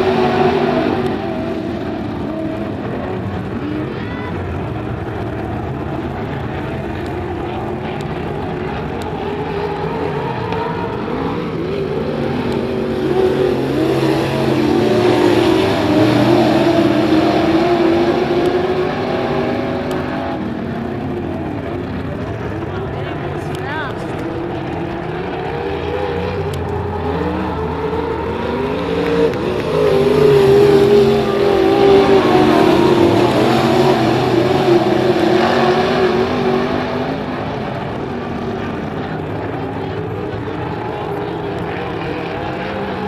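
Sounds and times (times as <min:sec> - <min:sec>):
race car engines revving: 0:00.0 - 0:43.0.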